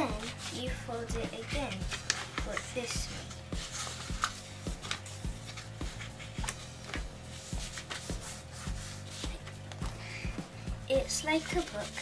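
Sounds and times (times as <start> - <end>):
paper being folded: 0.0 - 10.1, 11.1 - 12.0
background music with steady beat: 0.0 - 12.0
hands rubbing paper: 0.0 - 12.0.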